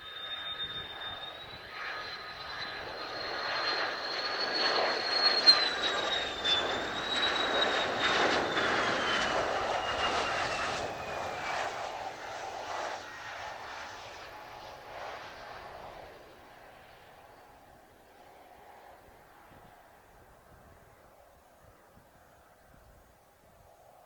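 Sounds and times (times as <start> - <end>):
jet engine whine and roar: 0.0 - 22.7.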